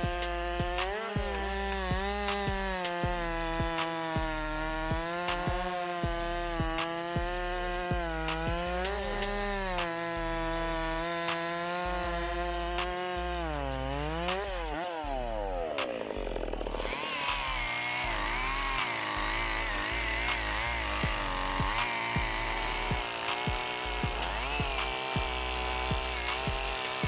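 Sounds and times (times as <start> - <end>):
chainsaw revving and cutting: 0.0 - 27.0.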